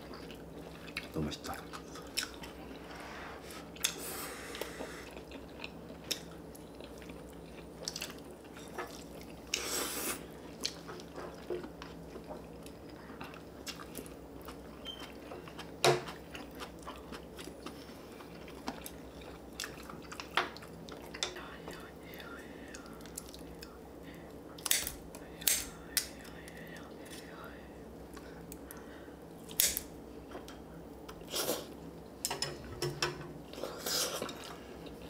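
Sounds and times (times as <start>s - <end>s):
people chewing food: 0.0s - 35.0s.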